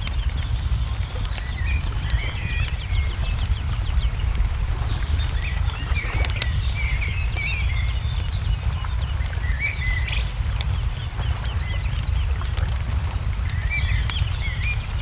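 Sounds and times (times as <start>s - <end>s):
low steady rumble: 0.0s - 15.0s
small birds twittering: 0.0s - 15.0s
wood fire crackling: 0.0s - 15.0s.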